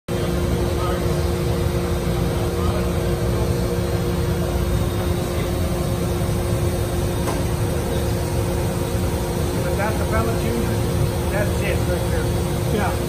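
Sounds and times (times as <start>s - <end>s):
industrial machinery hum: 0.1s - 13.0s.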